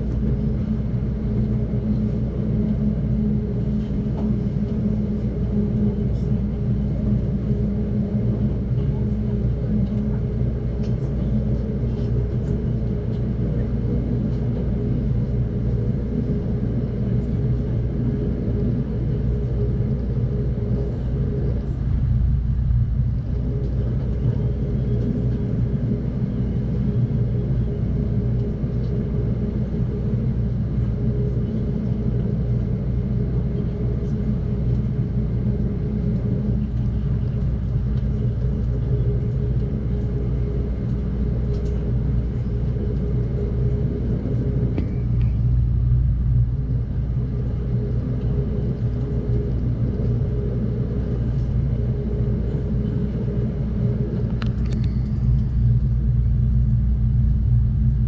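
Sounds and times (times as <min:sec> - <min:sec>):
faint steady hum: 0:00.0 - 0:58.0
train rumbling on track: 0:00.0 - 0:58.0.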